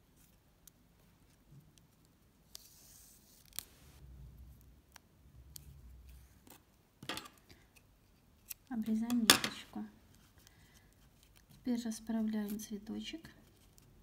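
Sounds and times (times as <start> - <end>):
thread drawn through ribbon rustling: 0.0 - 12.7.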